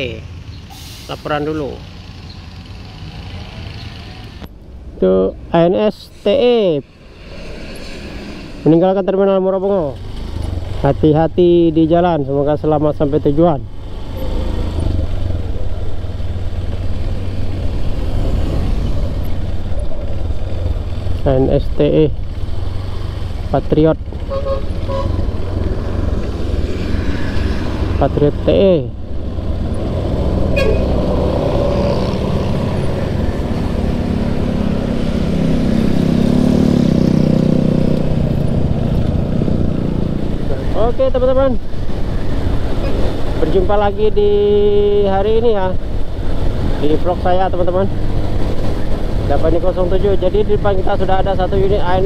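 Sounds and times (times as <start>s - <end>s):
bus diesel engine rumbling: 0.0s - 36.2s, 37.4s - 52.0s
road noise: 0.0s - 52.0s.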